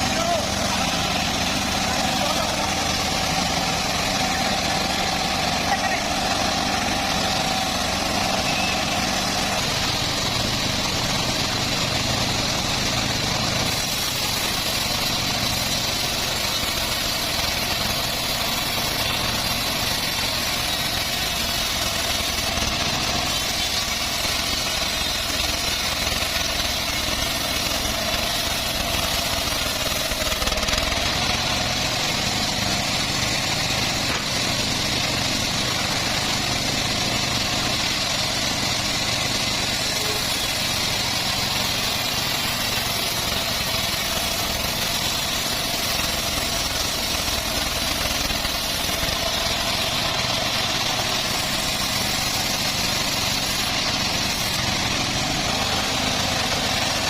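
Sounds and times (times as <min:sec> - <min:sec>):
sawmill machine drone: 0:00.0 - 0:57.0.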